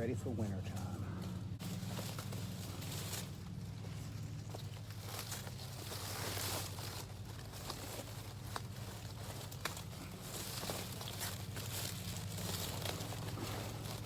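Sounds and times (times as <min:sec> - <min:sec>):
foliage rustling: 0:00.0 - 0:14.0
steady low hum: 0:00.0 - 0:14.0.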